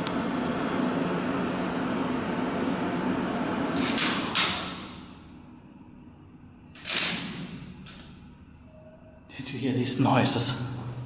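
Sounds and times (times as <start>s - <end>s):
elevator running: 0.0s - 11.0s.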